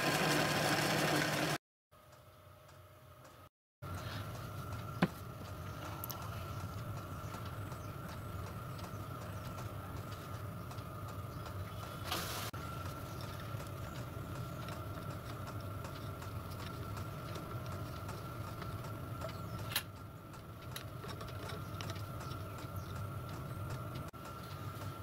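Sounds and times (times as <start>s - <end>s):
steady low hum: 2.0s - 25.0s.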